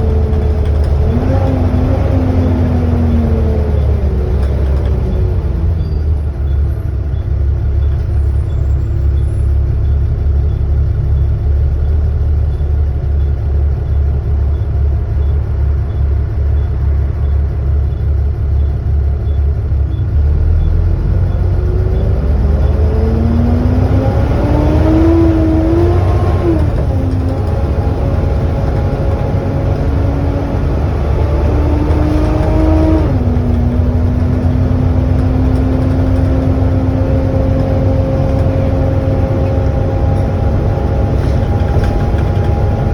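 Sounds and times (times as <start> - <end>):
bus engine rumbling and whining: 0.0 - 42.9.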